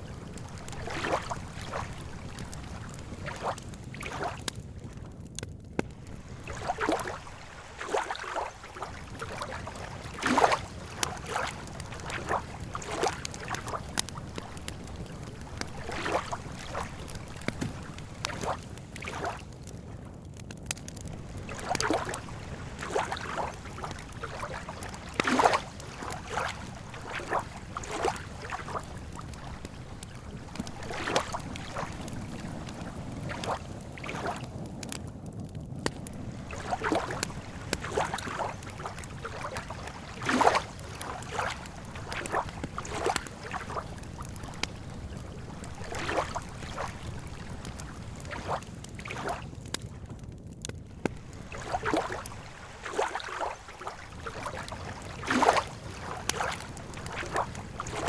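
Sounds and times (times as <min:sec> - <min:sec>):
lake water lapping: 0:00.0 - 0:05.0, 0:05.8 - 0:20.0, 0:20.9 - 0:34.9, 0:35.8 - 0:49.9, 0:50.9 - 0:58.0
campfire crackling and popping: 0:00.0 - 0:58.0.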